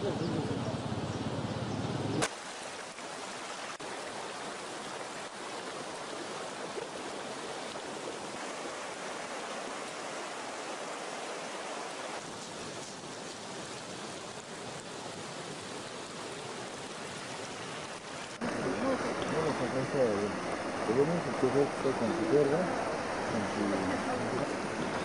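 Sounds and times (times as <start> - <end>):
rushing river water: 0.0 - 25.0.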